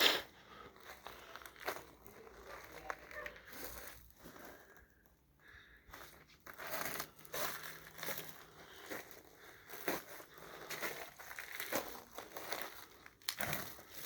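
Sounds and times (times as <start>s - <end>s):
crunching and crinkling rustles: 0.2s - 14.0s.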